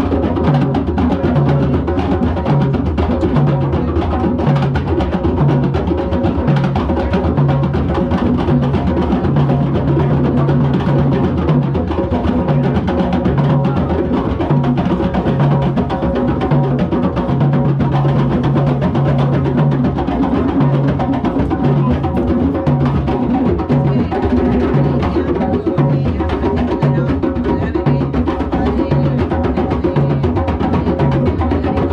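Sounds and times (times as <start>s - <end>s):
hand drums playing: 0.0s - 31.9s.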